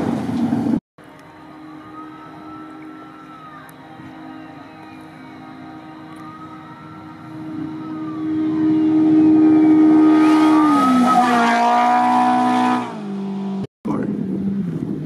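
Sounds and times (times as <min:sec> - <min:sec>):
race vehicle engine passing by: 0:00.0 - 0:15.0.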